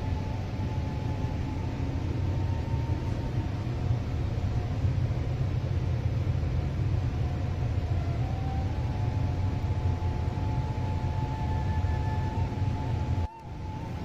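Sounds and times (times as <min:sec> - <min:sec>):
faint thin steady tones: 0:00.0 - 0:14.0
steady low rumble: 0:00.0 - 0:14.0.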